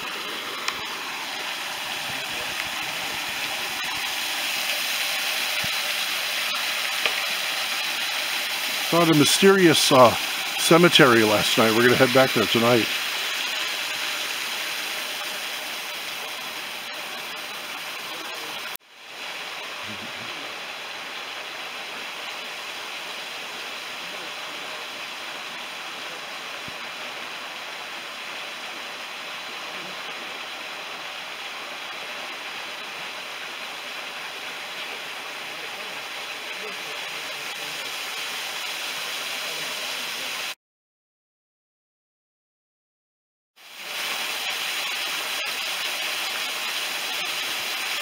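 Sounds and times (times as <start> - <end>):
small waterfall rushing: 0.0 - 40.6, 43.6 - 48.0.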